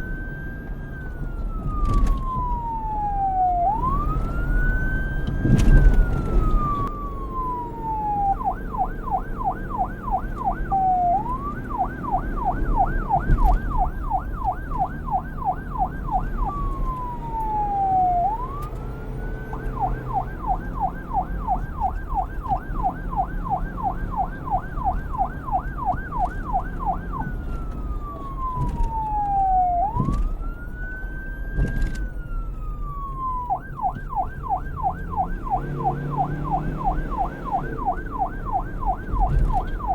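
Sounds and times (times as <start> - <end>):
electronic police siren: 0.0 - 39.9.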